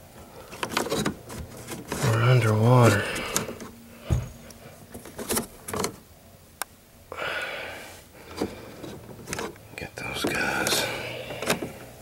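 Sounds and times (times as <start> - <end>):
hands handling wiring: 0.0 - 6.0, 8.2 - 12.0.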